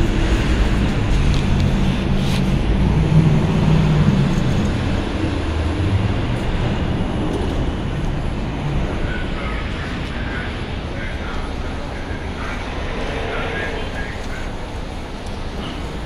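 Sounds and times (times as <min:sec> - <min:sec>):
subway train slowing to a stop: 0:00.0 - 0:16.0.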